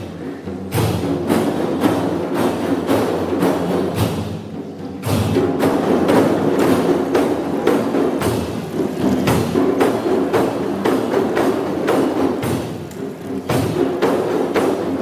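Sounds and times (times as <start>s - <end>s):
hand percussion beat: 0.0s - 15.0s.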